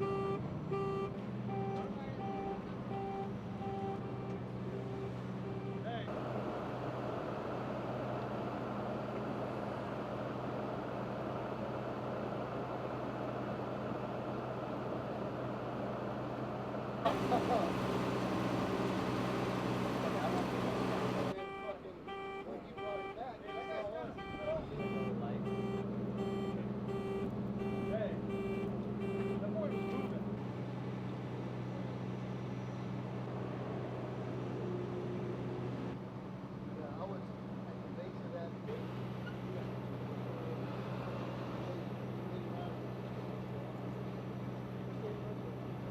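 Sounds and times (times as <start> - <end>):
engine idling hum: 0.0 - 21.4, 23.6 - 45.9.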